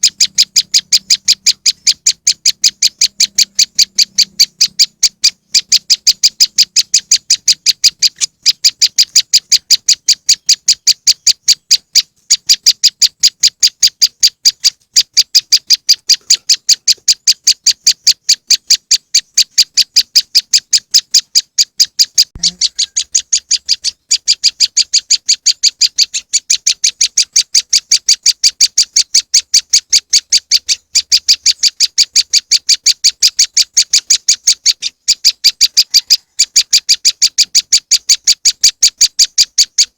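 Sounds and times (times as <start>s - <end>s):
high sharp bird chirps: 0.0s - 39.9s.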